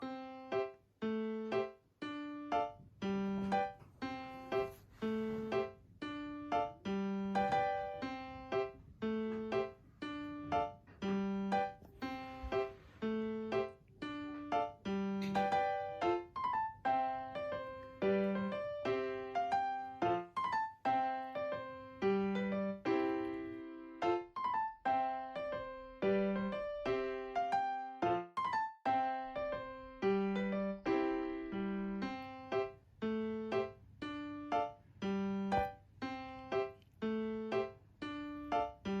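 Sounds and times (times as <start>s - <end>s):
gentle piano melody: 0.0s - 39.0s.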